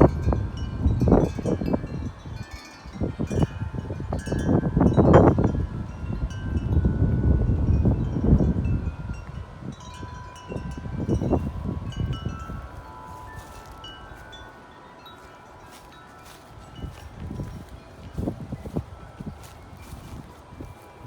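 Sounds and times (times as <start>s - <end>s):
wind chimes ringing: 0.0s - 21.0s
wind rumbling on microphone: 0.0s - 21.0s.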